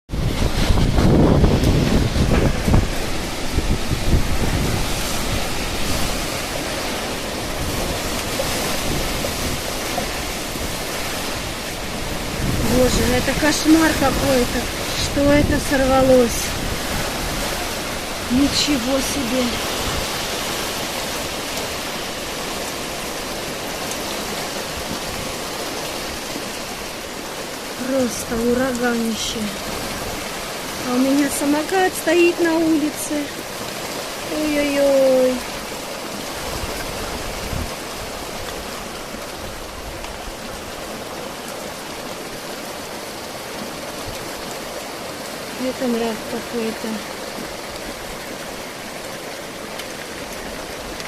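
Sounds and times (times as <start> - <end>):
gusting wind: 0.1 - 51.0
heavy rain hiss: 0.1 - 51.0.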